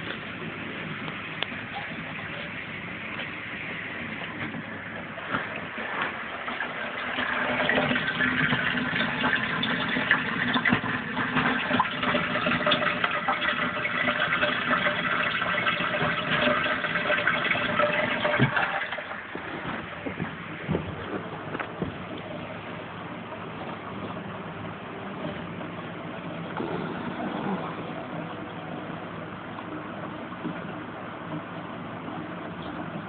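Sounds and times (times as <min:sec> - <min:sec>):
water splashing and gurgling: 0:00.0 - 0:31.2
filter motor hum: 0:00.0 - 0:33.0.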